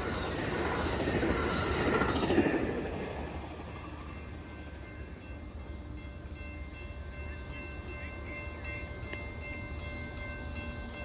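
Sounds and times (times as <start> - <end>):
distant diesel locomotive rumble: 0.0 - 11.0.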